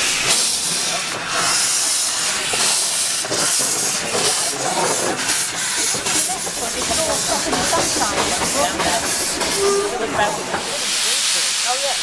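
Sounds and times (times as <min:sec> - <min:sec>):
loud steady hissing: 0:00.0 - 0:12.0.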